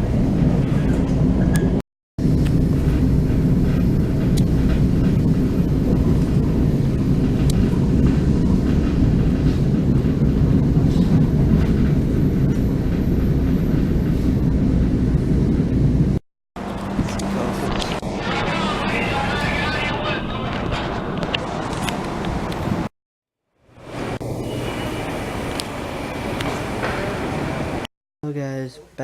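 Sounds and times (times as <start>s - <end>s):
train rumbling: 0.0s - 22.9s, 23.7s - 27.9s.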